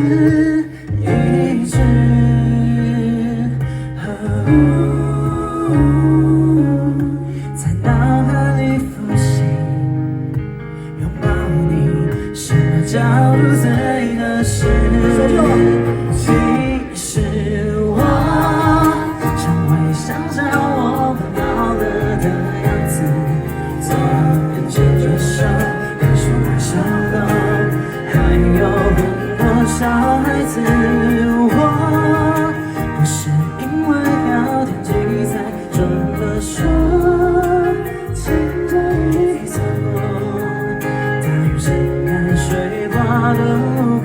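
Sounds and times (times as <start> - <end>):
rock band playing live: 0.0 - 44.0.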